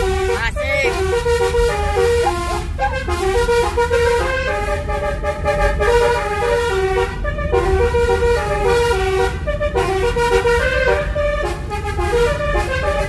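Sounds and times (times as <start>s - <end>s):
musical air horn tune: 0.0s - 13.0s
steady low rumble: 0.0s - 13.0s.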